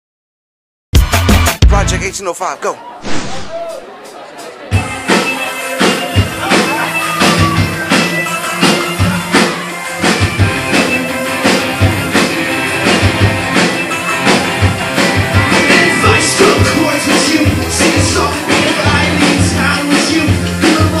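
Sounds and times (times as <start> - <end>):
drum kit beat: 1.0 - 2.3, 3.4 - 21.0
guitar: 4.0 - 21.0.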